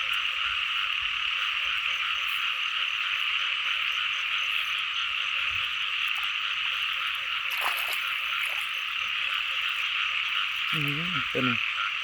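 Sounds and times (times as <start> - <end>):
frogs calling in chorus: 0.0 - 12.0.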